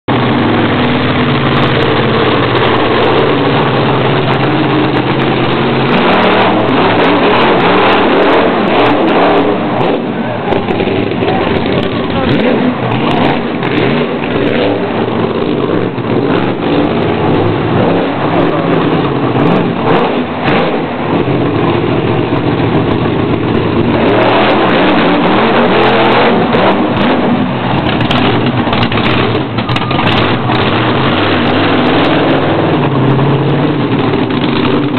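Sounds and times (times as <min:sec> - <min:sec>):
monster truck engine revving: 0:00.0 - 0:34.9.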